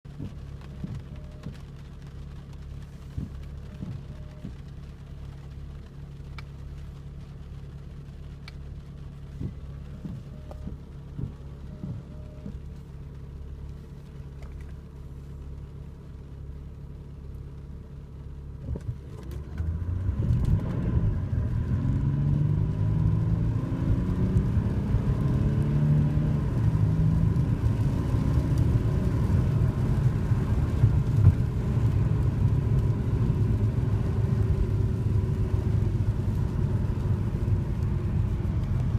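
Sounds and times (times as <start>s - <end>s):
diesel car engine accelerating: 0.0s - 38.9s.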